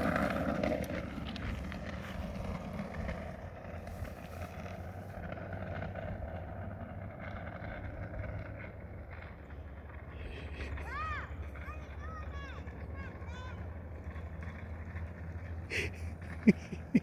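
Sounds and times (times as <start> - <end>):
scooter rolling rumble: 0.0 - 17.0.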